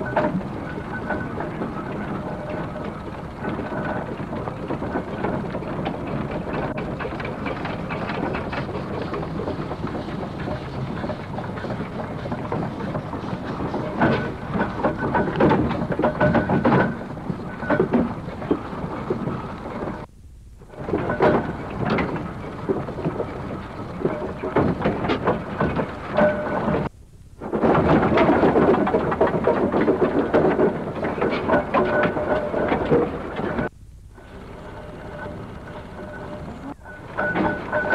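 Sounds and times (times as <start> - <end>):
heavy vehicle engine rumbling: 0.0 - 37.9.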